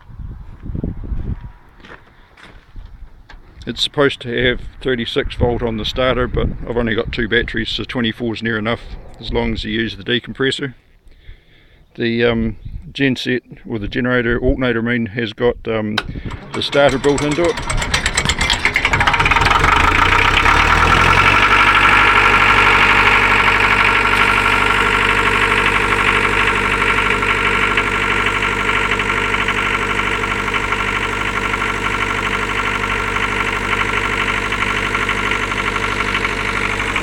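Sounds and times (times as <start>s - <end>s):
diesel generator running: 1.4s - 10.0s, 16.0s - 37.0s.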